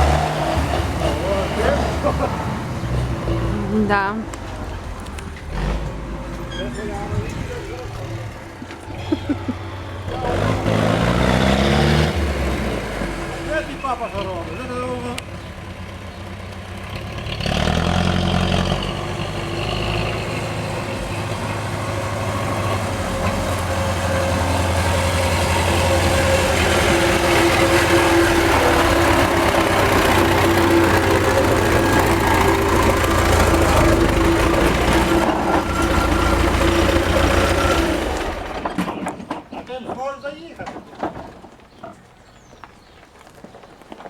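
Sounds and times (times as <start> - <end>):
tractor diesel engine running: 0.0 - 40.2.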